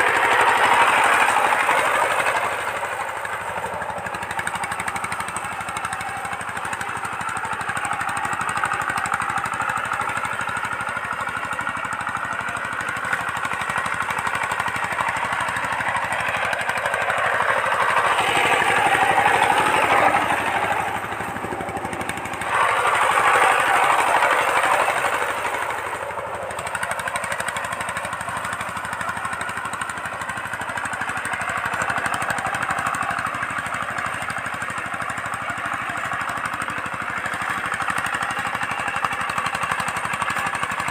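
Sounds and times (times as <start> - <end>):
diesel engine knocking: 0.0 - 40.9
tines working dry soil: 0.0 - 40.9.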